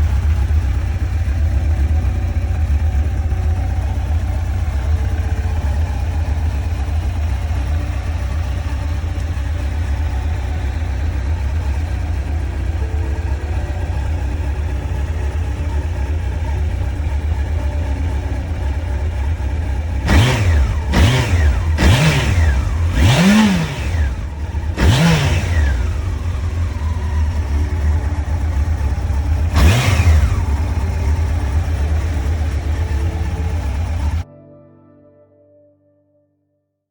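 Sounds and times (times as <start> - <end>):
motorcycle engine idling and revving: 0.0 - 34.2.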